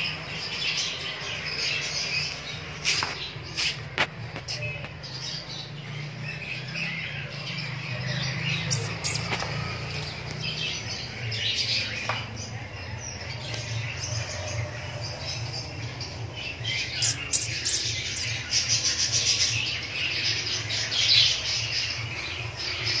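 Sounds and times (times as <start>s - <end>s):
small birds chirping and squawking: 0.0s - 23.0s.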